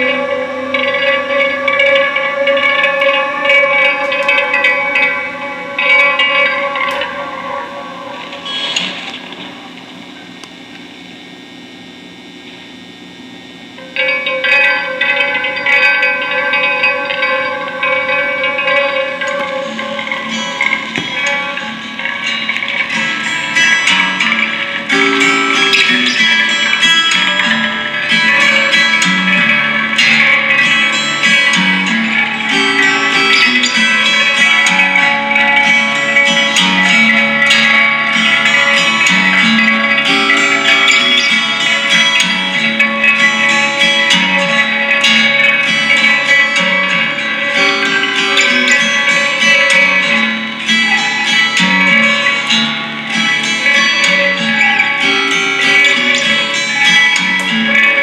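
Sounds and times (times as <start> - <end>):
plucked guitar: 0.0 - 12.8, 13.6 - 58.0.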